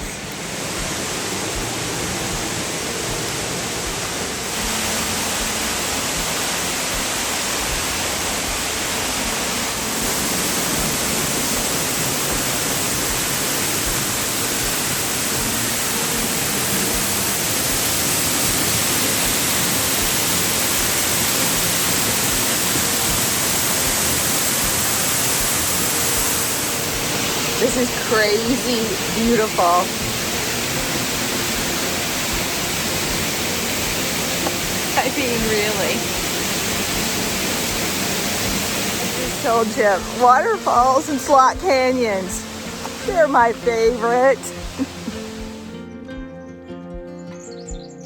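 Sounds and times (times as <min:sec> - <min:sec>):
waterfall roaring: 0:00.0 - 0:45.8.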